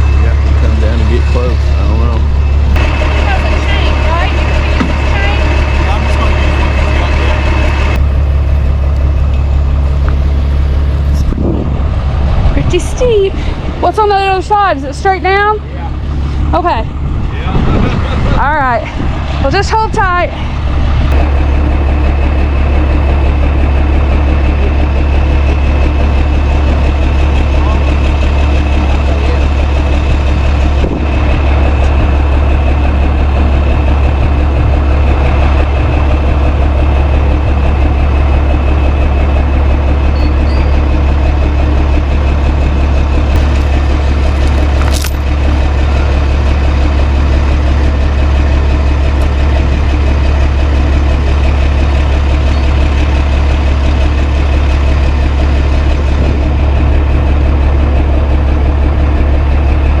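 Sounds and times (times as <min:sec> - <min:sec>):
heavy vehicle engine idling: 0:00.0 - 1:00.0.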